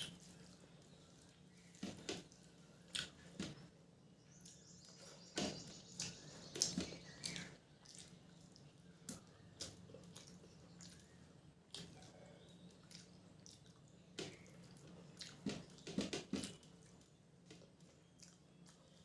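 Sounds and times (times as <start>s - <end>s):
soft chewing: 0.0s - 19.0s.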